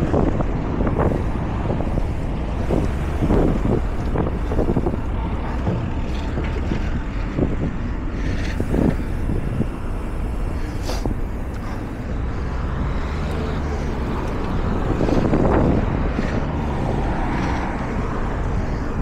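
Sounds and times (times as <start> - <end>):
road noise rumble: 0.0 - 19.0.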